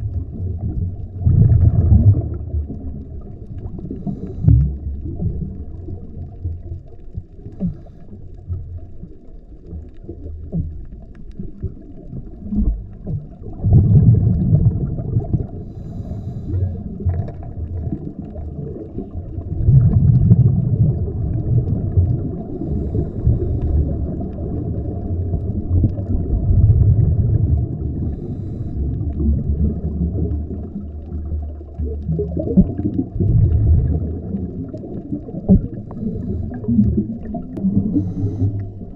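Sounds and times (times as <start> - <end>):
underwater scuba bubbles: 0.0 - 38.9.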